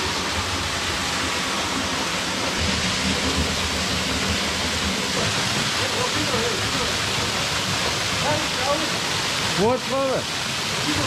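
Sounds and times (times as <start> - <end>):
waterfall rushing and splashing: 0.0 - 11.0.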